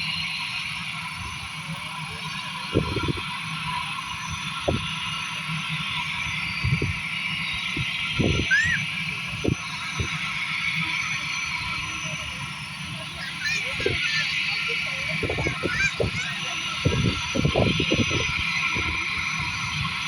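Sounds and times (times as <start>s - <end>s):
distant jet engines roaring: 0.0s - 20.0s.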